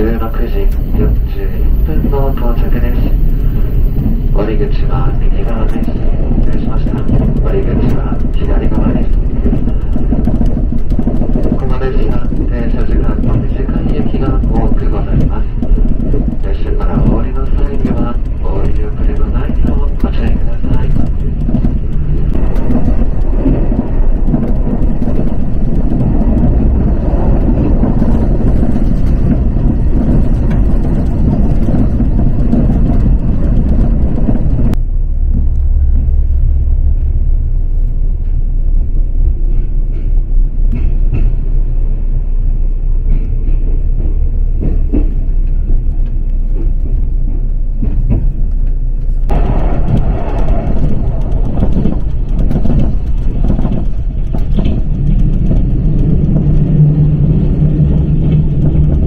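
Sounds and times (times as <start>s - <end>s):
train rumbling and rattling: 0.0s - 59.0s.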